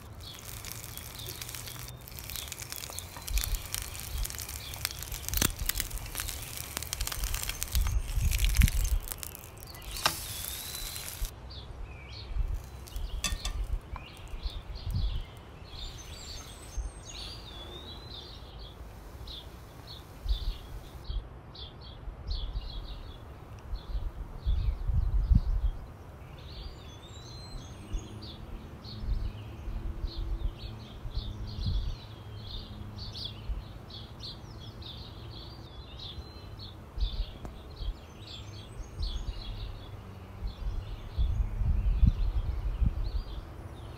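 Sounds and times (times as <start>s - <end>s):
small birds chirping and twittering: 0.0s - 43.9s.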